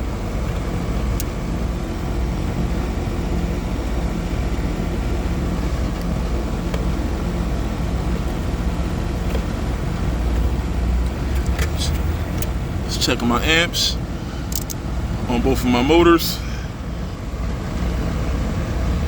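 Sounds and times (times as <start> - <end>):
air conditioner compressor hum: 0.0 - 19.0
condenser fan rushing: 0.0 - 19.0.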